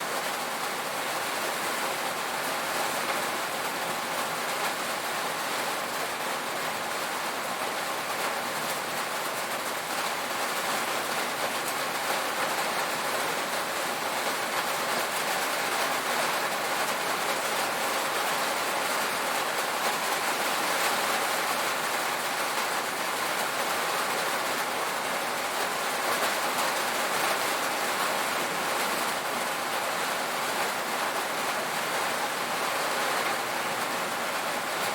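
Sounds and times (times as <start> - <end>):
heavy rain on a tin roof: 0.0 - 34.9.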